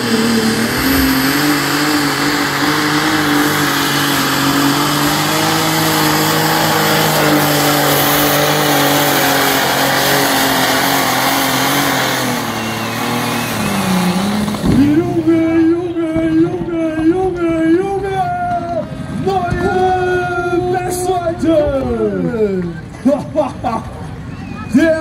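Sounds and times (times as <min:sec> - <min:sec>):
tractor engine under heavy load: 0:00.0 - 0:25.0.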